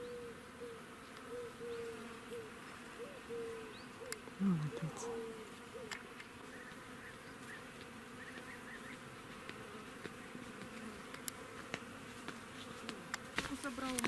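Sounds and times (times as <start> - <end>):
insect buzzing: 0.0 - 14.0.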